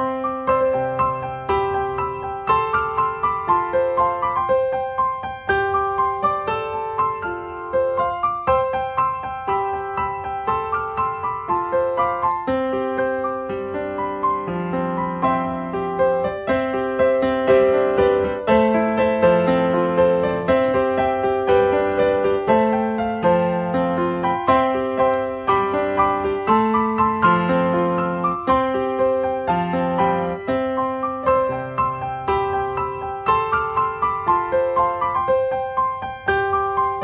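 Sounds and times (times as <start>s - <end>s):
gentle piano melody: 0.0s - 37.0s.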